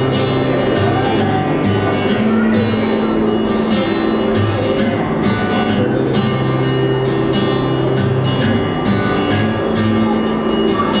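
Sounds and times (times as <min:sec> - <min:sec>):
plucked guitar: 0:00.0 - 0:11.0.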